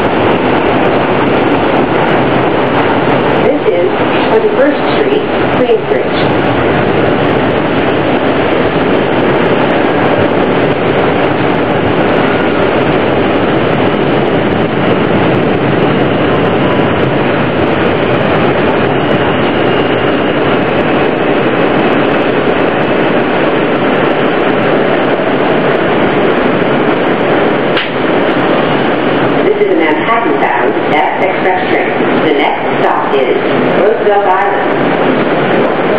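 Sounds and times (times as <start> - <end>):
subway train running rumble: 0.0 - 35.9.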